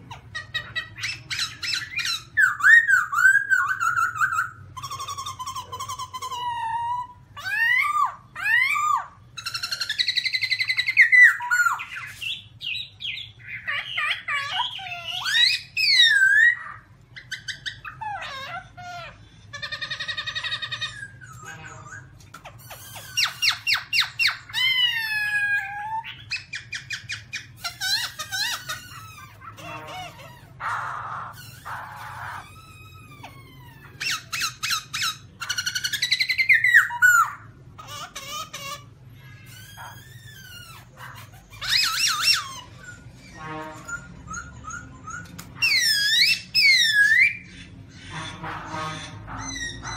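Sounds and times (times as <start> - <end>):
bird harsh rasping call: 0.0 - 49.9.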